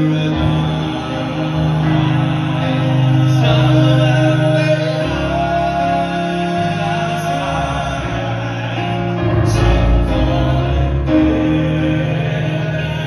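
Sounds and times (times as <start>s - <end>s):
male vocal group singing: 0.0s - 13.0s
piano: 0.0s - 13.0s.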